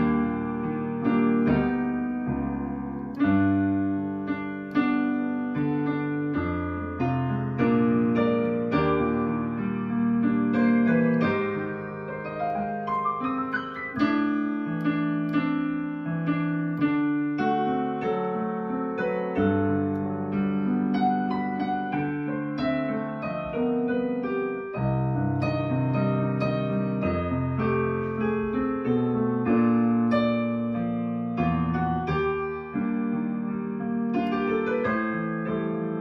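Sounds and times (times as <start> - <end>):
slow jazz piano: 0.0 - 36.0.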